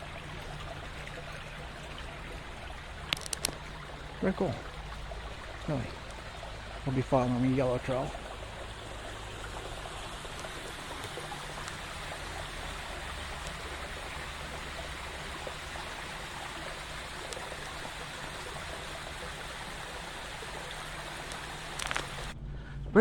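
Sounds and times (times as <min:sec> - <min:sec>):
stream rushing: 0:00.0 - 0:22.4.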